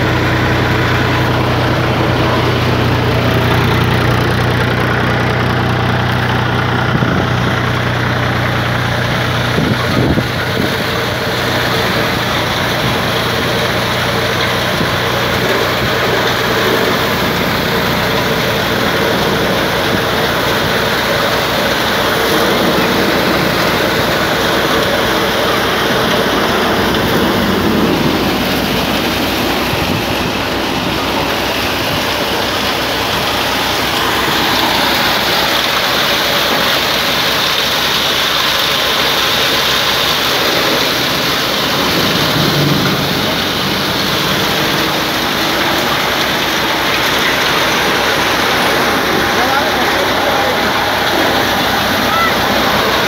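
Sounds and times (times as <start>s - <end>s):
engine running: 0.0s - 53.0s
machinery noise: 0.0s - 53.0s.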